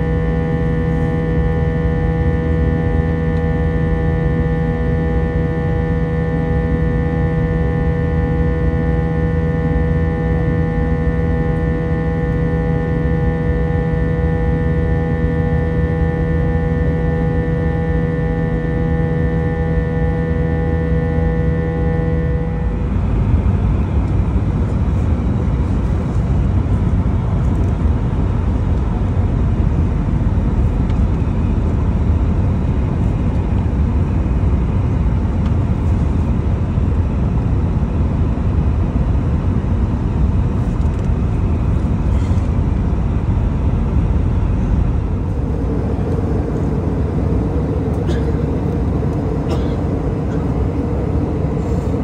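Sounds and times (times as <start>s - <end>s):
airliner cabin engine noise: 0.0s - 52.0s.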